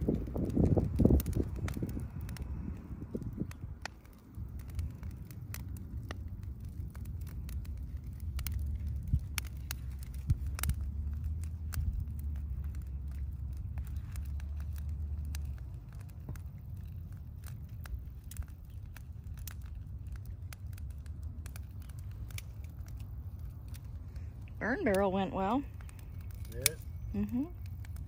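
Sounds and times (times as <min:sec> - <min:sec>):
brush fire crackling: 0:00.0 - 0:28.0
steady low rumble: 0:00.0 - 0:28.0
twigs popping and snapping: 0:00.0 - 0:28.0.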